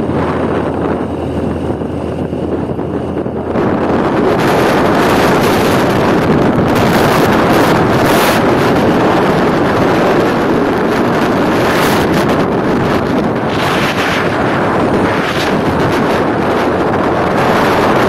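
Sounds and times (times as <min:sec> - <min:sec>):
road noise: 0:00.0 - 0:18.0
scooter engine running: 0:00.0 - 0:18.0
wind buffeting microphone: 0:00.0 - 0:18.0.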